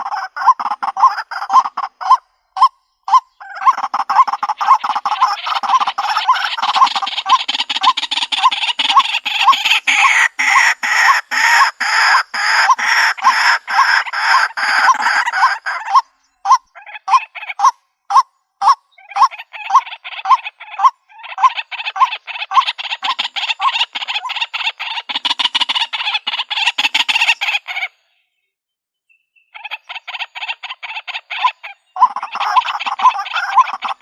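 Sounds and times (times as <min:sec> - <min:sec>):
waterhen calling: 0:00.0 - 0:28.1, 0:29.4 - 0:34.0.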